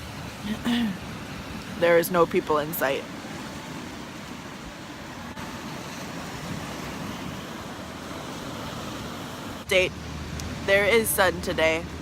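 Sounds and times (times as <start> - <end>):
surf washing on rocky shore: 0.0 - 12.0.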